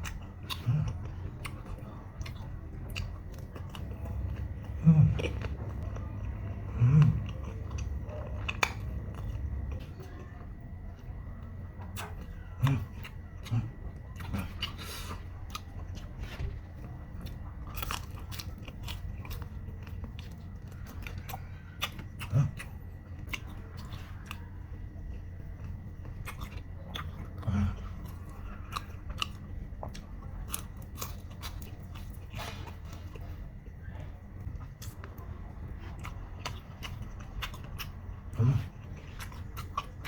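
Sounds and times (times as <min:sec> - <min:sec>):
chewing crispy fried chicken: 0:00.0 - 0:40.0.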